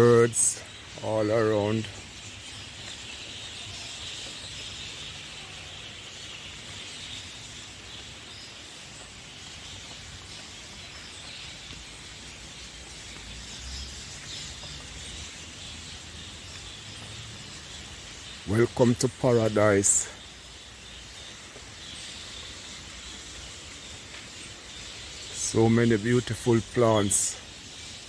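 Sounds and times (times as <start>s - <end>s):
birds calling: 0.0s - 28.0s
constant high hiss: 0.0s - 28.0s.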